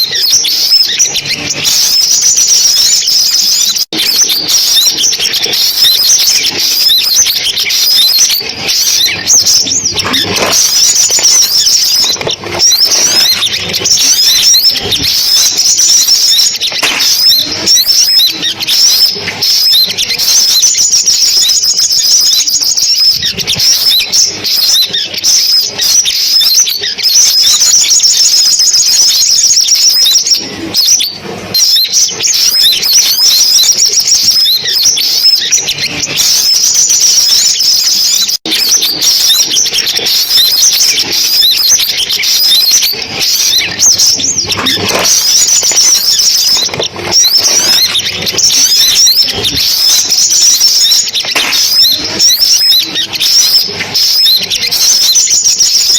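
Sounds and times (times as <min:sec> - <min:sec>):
sunbird twittering chirps: 0:00.0 - 0:55.9.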